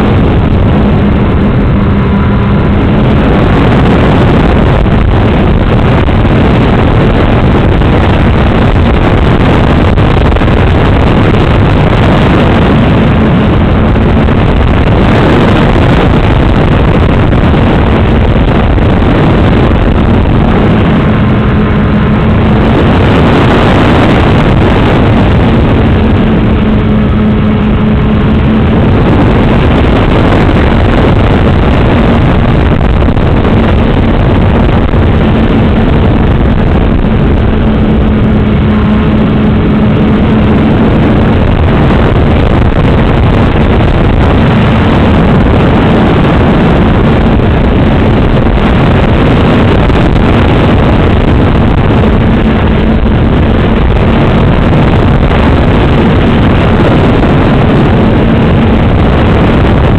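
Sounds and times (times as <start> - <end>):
model airplane propeller and wind: 0.0 - 59.9
motor hum: 0.0 - 59.9.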